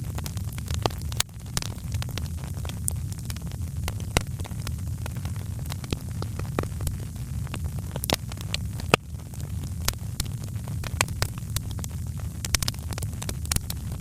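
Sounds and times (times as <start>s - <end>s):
low rumble of flames: 0.0s - 14.0s
wood fire crackling: 0.0s - 14.0s
sharp pops of fire: 0.1s - 14.0s.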